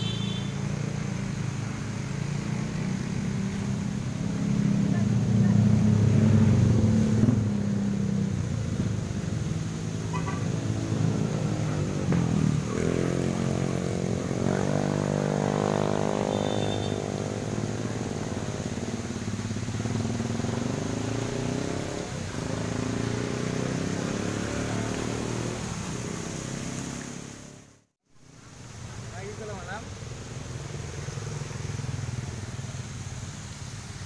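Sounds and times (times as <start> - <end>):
vehicle passing: 0.0 - 33.3
fountain water splashing: 0.0 - 34.0
vehicle engines running: 0.0 - 34.0.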